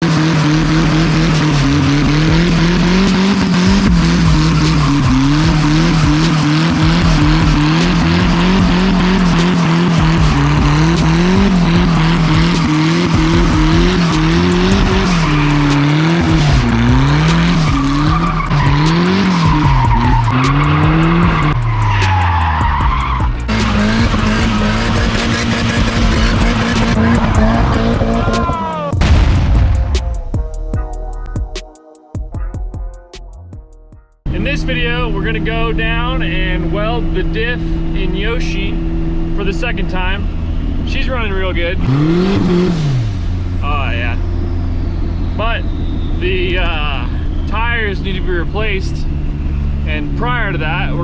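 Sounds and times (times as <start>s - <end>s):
tyres skidding and squealing: 0.0s - 29.1s, 34.3s - 51.0s
turbocharged engine revving: 0.0s - 31.5s, 34.2s - 51.0s.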